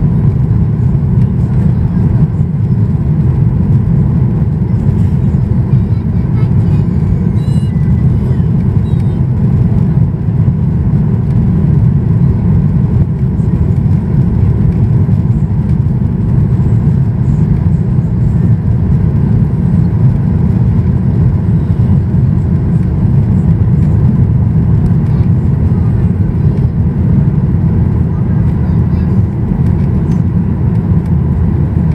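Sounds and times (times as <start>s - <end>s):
aircraft cabin engine roar: 0.0s - 31.9s
faint high turbine whine: 0.0s - 31.9s.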